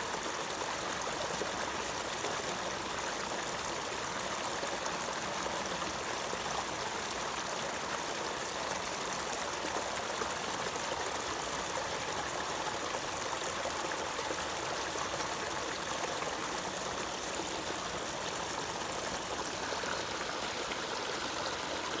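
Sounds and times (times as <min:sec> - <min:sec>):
stream trickling and splashing: 0:00.0 - 0:22.0.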